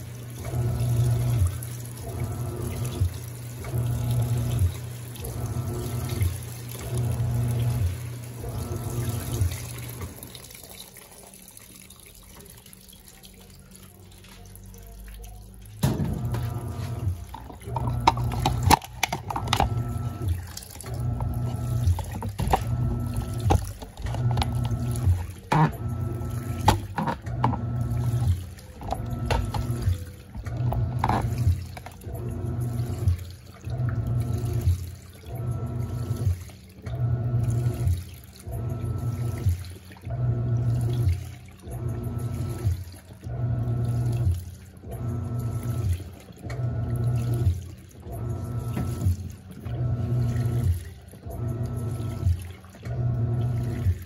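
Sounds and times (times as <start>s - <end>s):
washing machine motor humming: 0.0s - 54.0s
water sloshing: 0.0s - 54.0s.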